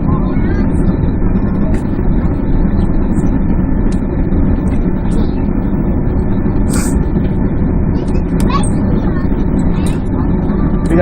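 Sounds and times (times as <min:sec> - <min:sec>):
jet engines low rumble in cabin: 0:00.0 - 0:11.0.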